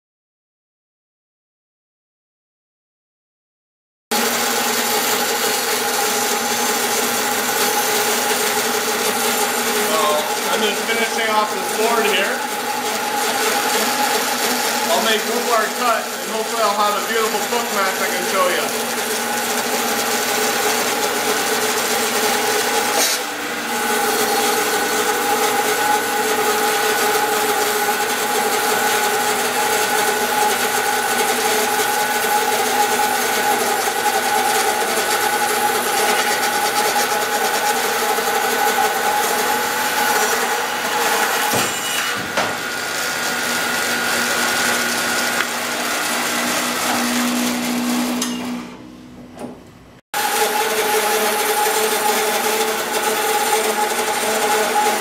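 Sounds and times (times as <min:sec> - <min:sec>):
band saw cutting log: 0:04.1 - 0:48.8, 0:50.2 - 0:55.0.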